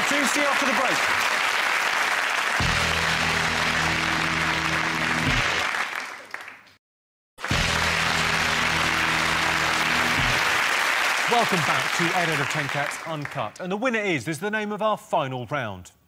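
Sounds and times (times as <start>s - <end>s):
studio audience applauding: 0.0s - 6.8s, 7.4s - 13.6s.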